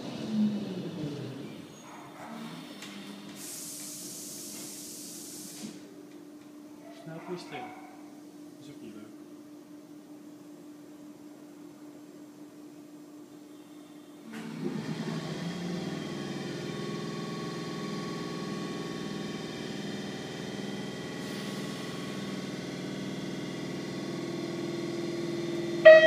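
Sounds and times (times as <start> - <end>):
metro train hum and whine: 0.0 - 6.8, 8.1 - 26.0.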